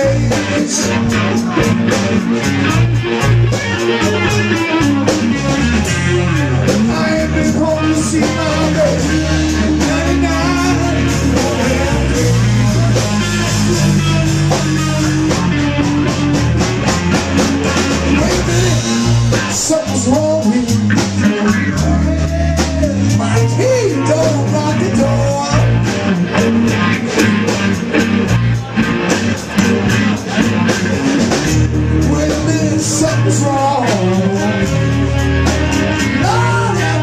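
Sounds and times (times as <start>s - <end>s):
bass guitar: 0.0s - 37.0s
drum kit: 0.0s - 37.0s
electric guitar lead: 0.0s - 37.0s.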